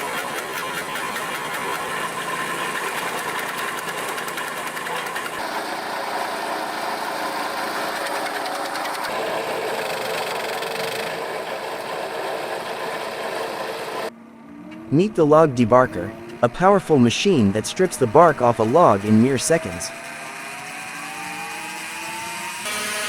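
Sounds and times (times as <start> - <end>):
diesel engine machine running: 0.0 - 23.0.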